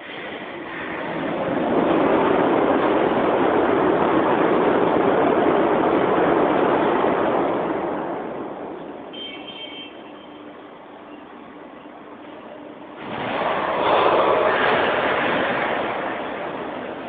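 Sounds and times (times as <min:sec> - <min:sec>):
mechanical rushing noise: 0:00.0 - 0:09.2, 0:10.0 - 0:17.0.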